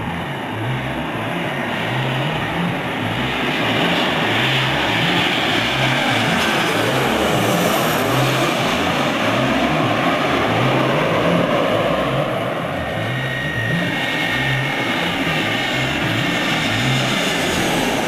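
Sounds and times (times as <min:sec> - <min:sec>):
jet airliner engine roar overhead: 0:00.0 - 0:18.0
thin jet engine whine: 0:00.0 - 0:18.0.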